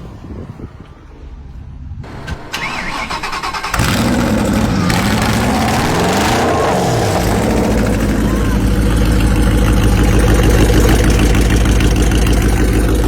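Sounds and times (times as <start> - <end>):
car engine revving: 0.0 - 13.0
starter motor cranking: 2.1 - 13.0.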